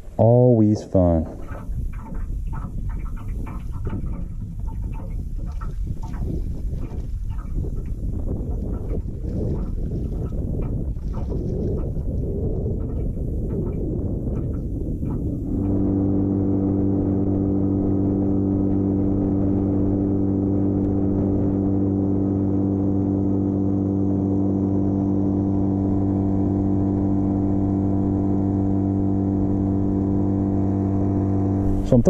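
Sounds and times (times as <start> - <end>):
outboard motor hum: 0.0 - 32.0
wind noise: 1.2 - 32.0.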